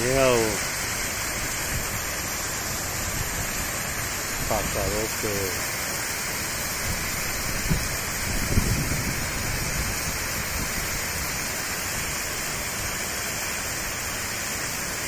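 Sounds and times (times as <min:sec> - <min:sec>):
waterfall rushing and splashing: 0:00.0 - 0:15.0.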